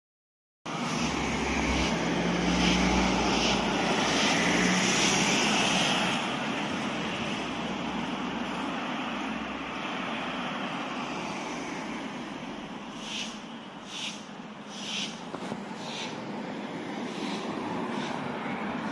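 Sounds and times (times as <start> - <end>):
vehicle passing close by: 0.7 - 13.3, 13.9 - 18.9
traffic noise: 0.7 - 18.9.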